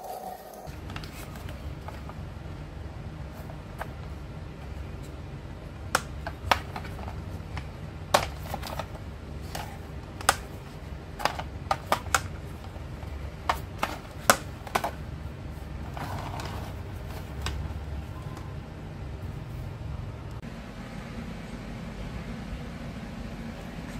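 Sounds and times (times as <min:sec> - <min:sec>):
steady low hum: 0:00.1 - 0:23.9.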